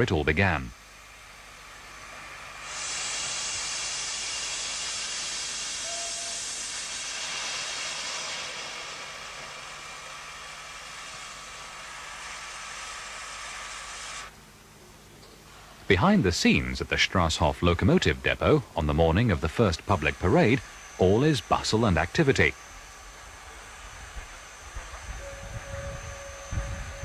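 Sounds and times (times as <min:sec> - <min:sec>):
steam hissing from locomotive: 0:00.9 - 0:14.4, 0:15.5 - 0:27.0.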